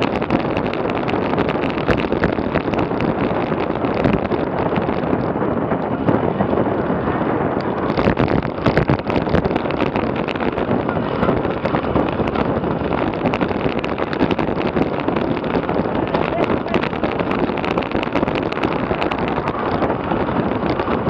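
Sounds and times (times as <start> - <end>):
wind roaring on microphone: 0.0 - 21.0.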